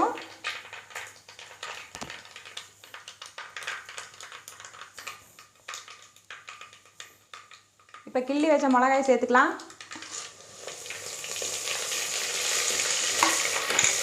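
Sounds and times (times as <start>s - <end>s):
mustard seeds popping in hot oil: 0.0s - 14.0s.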